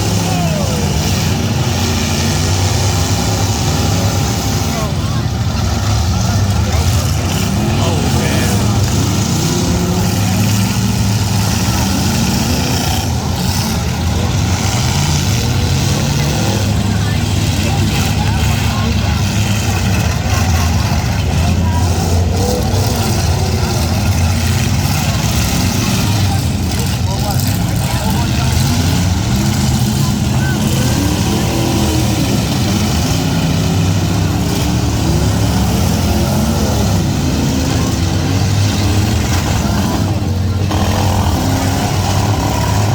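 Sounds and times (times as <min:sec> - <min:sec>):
car engines rumbling: 0:00.0 - 0:42.9.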